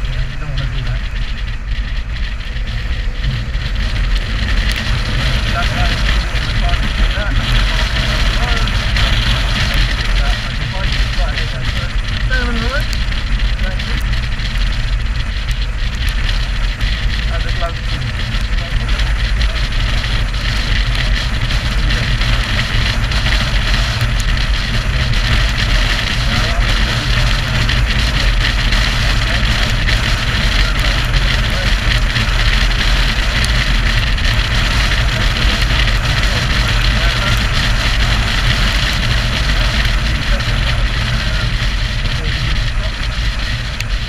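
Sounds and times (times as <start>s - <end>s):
motorcycle engine droning: 0.0s - 44.0s
wind rushing over microphone: 0.0s - 44.0s.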